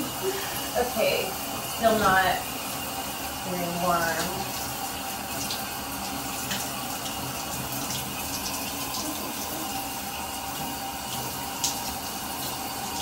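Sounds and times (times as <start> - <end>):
shower water spraying: 0.0 - 13.0.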